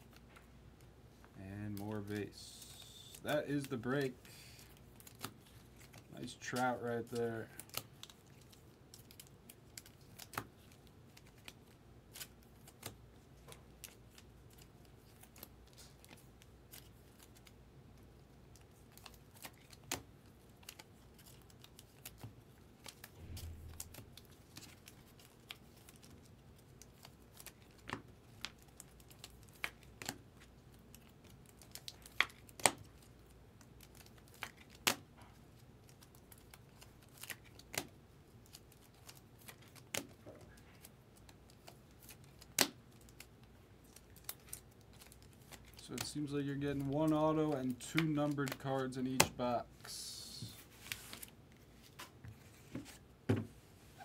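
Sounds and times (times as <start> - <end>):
plastic sleeves clicking and crinkling: 0.0 - 53.0.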